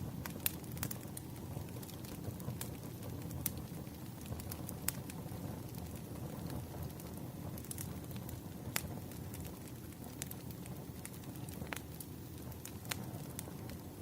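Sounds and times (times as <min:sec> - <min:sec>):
fire low rumble: 0:00.0 - 0:14.0
firewood crackling and popping: 0:00.0 - 0:14.0.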